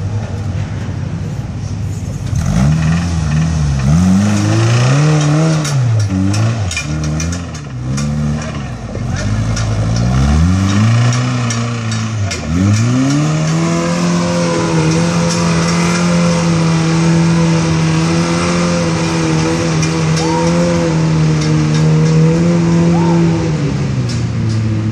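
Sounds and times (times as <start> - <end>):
buggy engine revving hard: 2.3 - 24.9.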